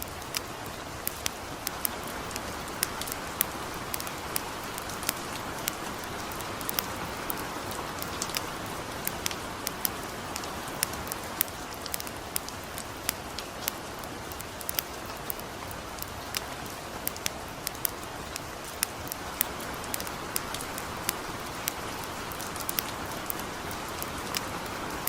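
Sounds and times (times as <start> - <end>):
campfire crackling and popping: 0.0 - 25.0
light rain falling: 0.0 - 25.0.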